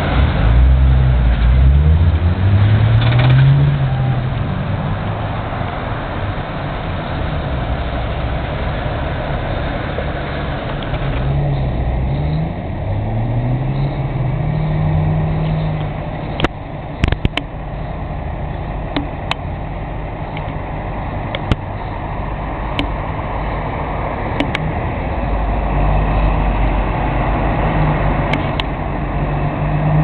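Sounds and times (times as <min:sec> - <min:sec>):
diesel engine accelerating through gears: 0:00.0 - 0:30.0
street traffic: 0:00.0 - 0:30.0.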